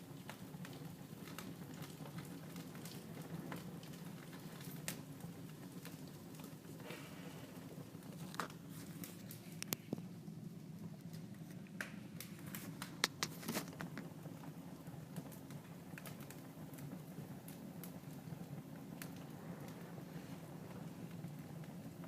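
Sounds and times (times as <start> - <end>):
fire popping and snapping: 0.0 - 22.0
wood fire crackling: 0.0 - 22.0.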